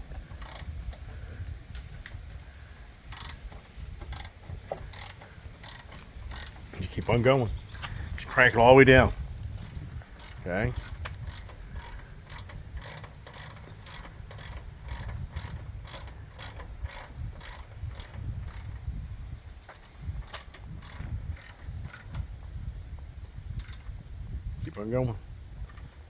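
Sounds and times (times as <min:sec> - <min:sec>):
ratchet wrench clicking: 0:00.2 - 0:02.3, 0:03.1 - 0:18.9, 0:19.7 - 0:22.9, 0:23.5 - 0:24.0, 0:25.6 - 0:25.9.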